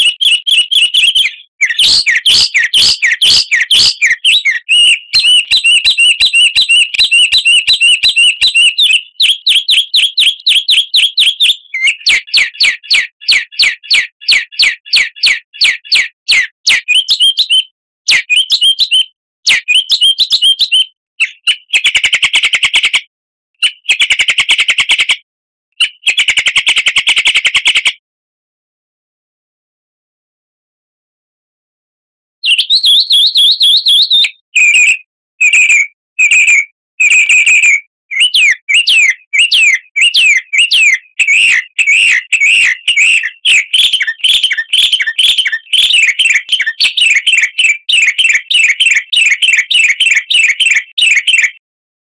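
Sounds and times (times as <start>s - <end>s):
recorded songbird chirps and rattles: 0.0s - 23.0s, 23.6s - 25.2s, 25.8s - 28.0s, 32.4s - 51.6s.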